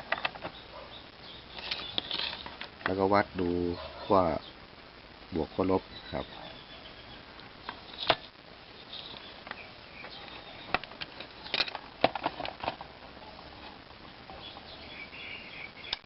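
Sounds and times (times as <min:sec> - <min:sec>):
low hiss: 0:00.0 - 0:16.0
faint chirps: 0:00.1 - 0:11.6, 0:13.2 - 0:16.0.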